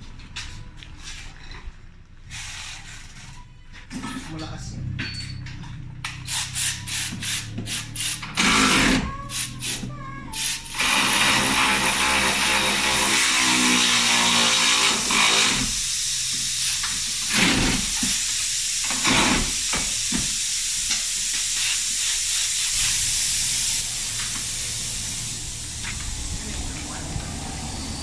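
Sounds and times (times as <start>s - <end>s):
compressed air hissing: 2.3s - 3.3s, 6.0s - 28.0s
short air bursts: 2.3s - 3.4s, 6.0s - 28.0s.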